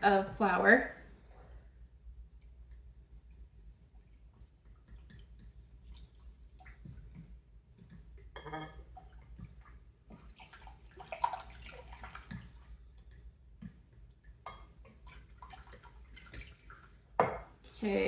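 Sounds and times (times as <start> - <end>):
wet stirring in a bowl: 1.2 - 17.2.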